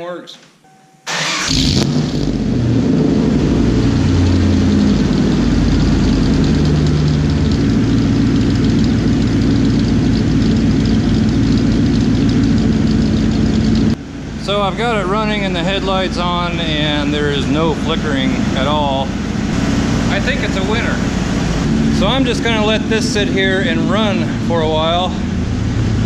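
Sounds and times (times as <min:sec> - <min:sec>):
truck engine starting and idling: 0:01.0 - 0:26.0.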